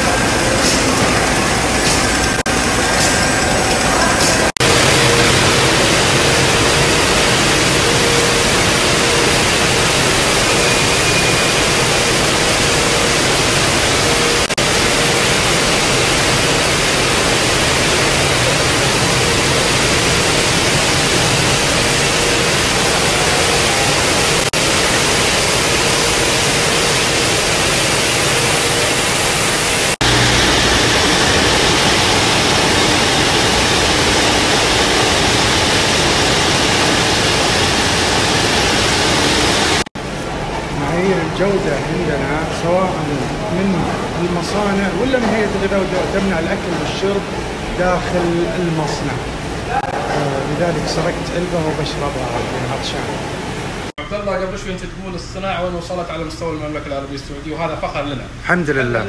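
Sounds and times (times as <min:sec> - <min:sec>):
production line machinery running: 0:00.0 - 0:59.0.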